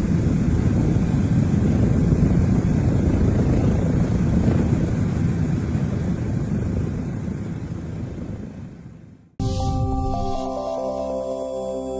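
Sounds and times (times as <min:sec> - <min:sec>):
aircraft engine and airflow rumble: 0:00.0 - 0:11.9.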